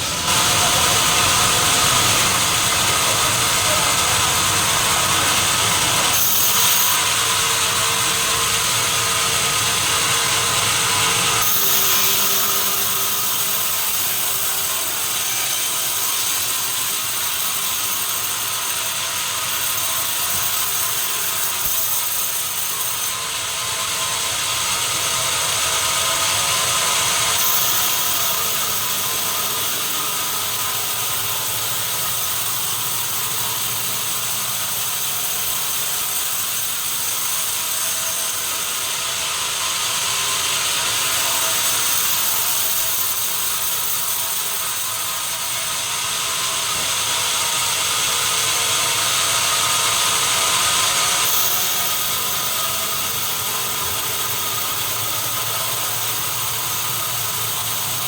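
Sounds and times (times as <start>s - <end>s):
sawmill machinery whining: 0.0s - 58.0s.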